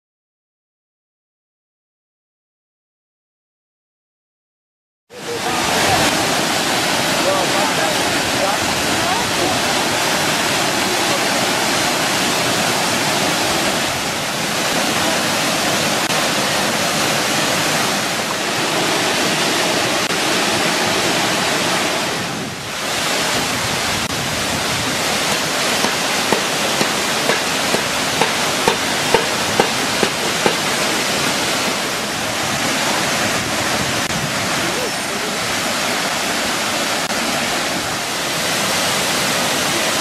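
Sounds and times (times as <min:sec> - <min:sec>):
waterfall rushing: 0:05.1 - 0:40.0.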